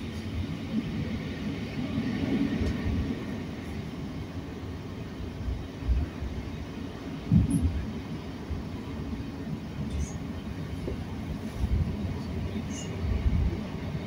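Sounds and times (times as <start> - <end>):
train rumbling on board: 0.0 - 14.0.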